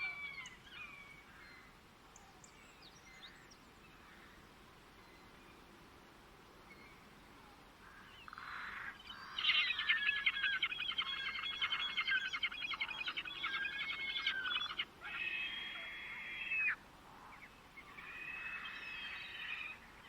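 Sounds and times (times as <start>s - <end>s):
songbird singing chirps and trills: 0.0s - 20.0s.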